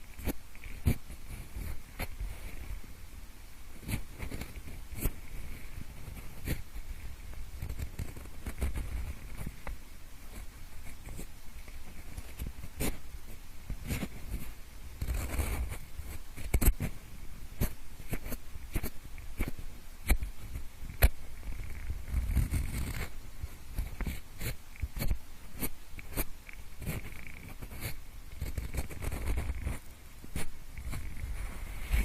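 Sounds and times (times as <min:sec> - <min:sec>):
pencil scratching and rubbing: 0:00.0 - 0:02.7, 0:03.8 - 0:06.7, 0:07.6 - 0:09.6, 0:10.3 - 0:17.0, 0:17.6 - 0:32.0.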